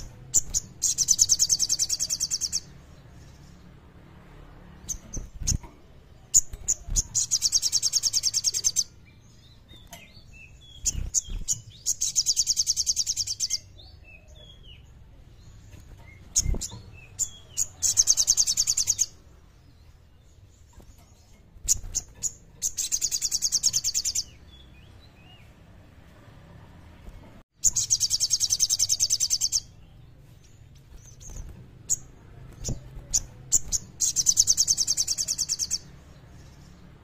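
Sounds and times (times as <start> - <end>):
bird singing rapid trills: 0.0 - 3.8, 4.8 - 25.5, 27.6 - 37.0.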